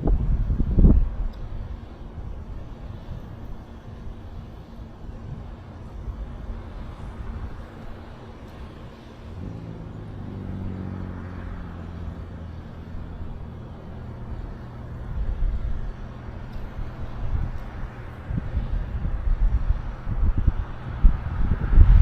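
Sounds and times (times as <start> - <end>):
steady background hiss: 0.0 - 21.9
vehicle engine drone passing: 0.0 - 22.0.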